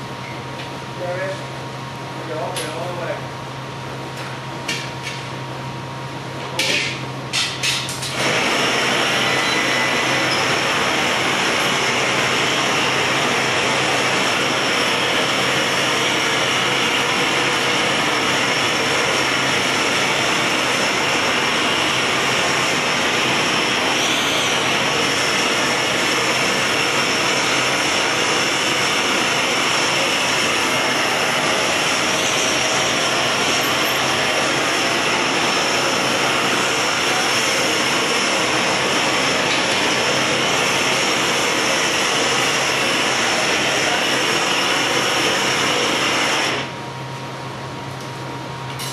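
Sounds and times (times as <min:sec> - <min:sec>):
gas torch hissing: 0:06.6 - 0:46.8.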